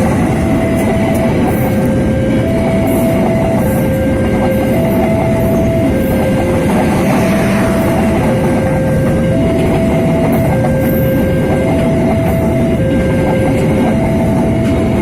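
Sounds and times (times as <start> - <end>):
passenger train rumbling past: 0.0 - 15.0
two-tone signal: 0.0 - 15.0
wheels clickety-clack on rails: 0.0 - 15.0.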